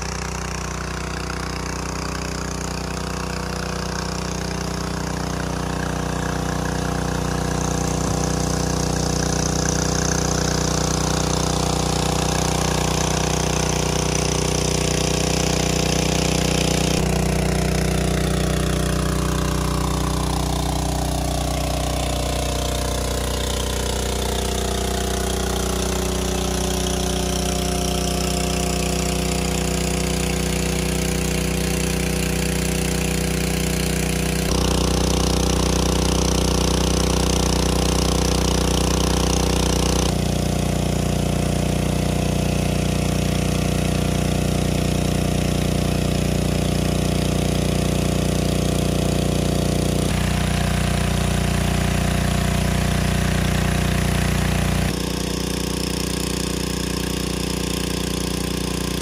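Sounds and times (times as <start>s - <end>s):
water pump engine running: 0.0s - 59.0s.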